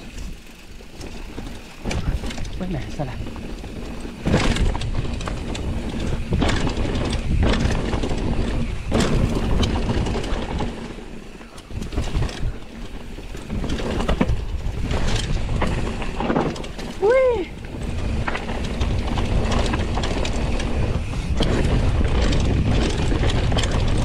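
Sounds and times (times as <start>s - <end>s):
bike knocking and rattling: 0.0s - 24.0s
tyres rumbling on dirt: 0.0s - 24.0s
wind on microphone: 1.3s - 10.8s, 11.6s - 24.0s.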